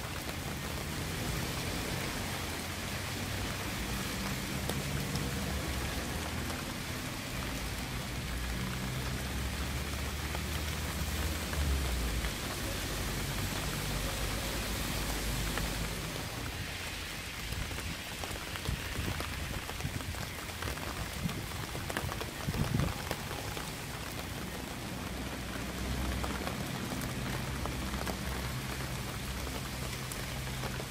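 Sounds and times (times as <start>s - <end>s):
raindrops ticking: 0.0s - 30.9s
steady rain hiss: 0.0s - 30.9s.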